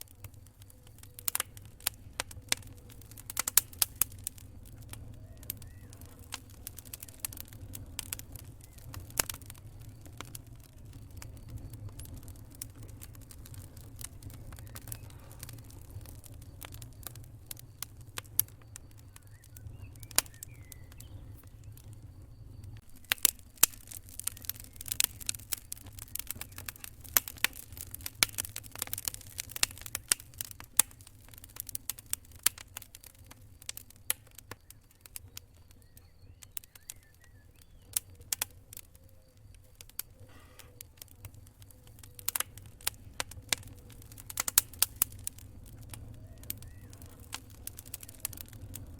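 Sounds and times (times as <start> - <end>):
campfire crackling and popping: 0.0 - 48.9
low fire rumble: 0.0 - 48.9.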